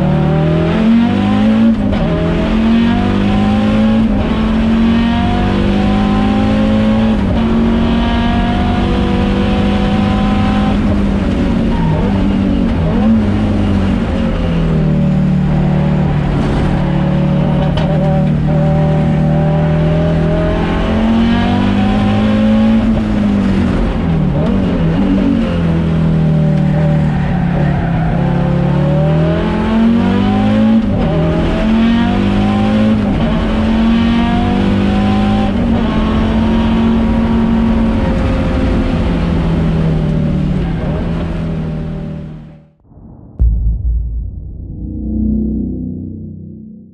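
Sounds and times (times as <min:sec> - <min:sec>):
rally car engine revving: 0:00.0 - 0:42.6.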